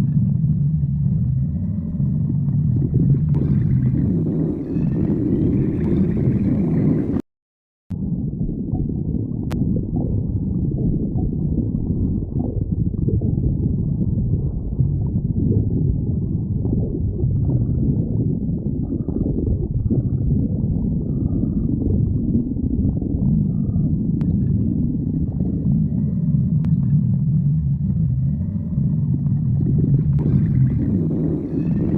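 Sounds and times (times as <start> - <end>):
faint higher gurgles: 0.0 - 7.2, 7.9 - 31.9
stomach growling: 0.0 - 7.2, 7.9 - 31.9.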